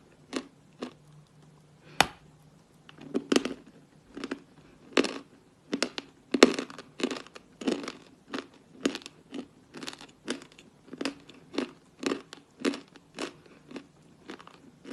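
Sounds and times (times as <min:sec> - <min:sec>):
chalk being chewed crunching: 0:00.1 - 0:01.7, 0:02.3 - 0:14.9.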